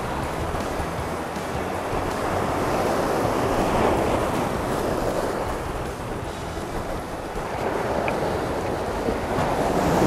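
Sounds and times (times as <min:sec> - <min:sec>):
waves washing against rocks: 0:00.0 - 0:10.0
wind on microphone: 0:00.0 - 0:10.0.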